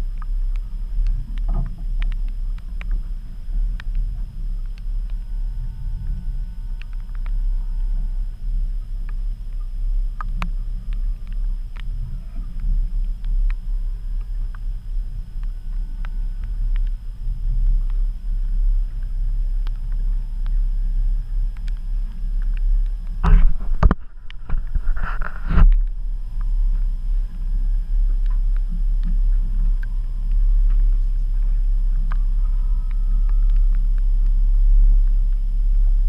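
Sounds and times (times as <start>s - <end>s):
outboard motor idling: 0.0s - 36.0s.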